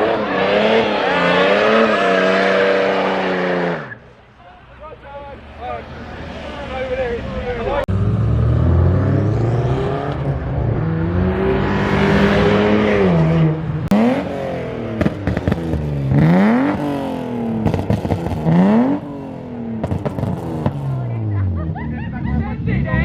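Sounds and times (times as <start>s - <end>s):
car engine revving: 0.0s - 4.1s, 5.4s - 23.0s.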